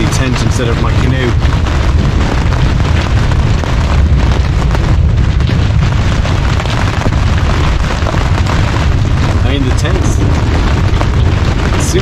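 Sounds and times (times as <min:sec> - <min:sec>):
heavy rain on tent canvas: 0:00.0 - 0:12.0
steady deep rumble: 0:00.0 - 0:12.0.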